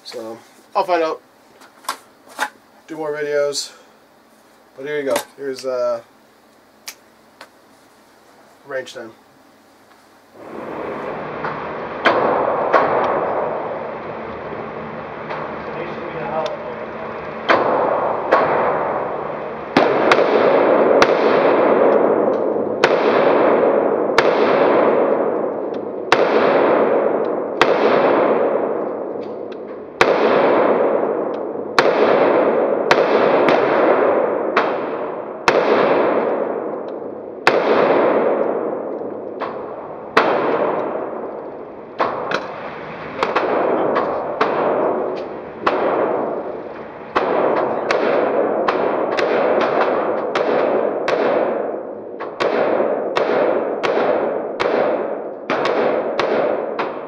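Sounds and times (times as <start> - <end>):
rifle shots with ringing echo: 10.4 - 14.2, 14.8 - 57.0.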